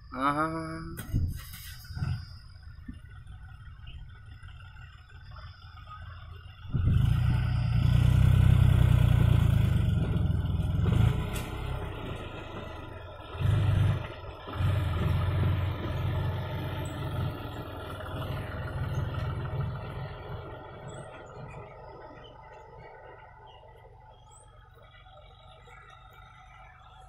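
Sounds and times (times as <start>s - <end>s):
diesel tractor engine running: 0.0s - 27.0s.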